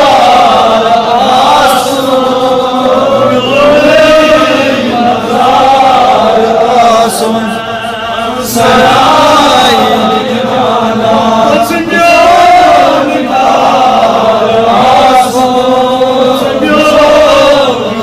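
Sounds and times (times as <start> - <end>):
man chanting into microphone: 0.0 - 18.0.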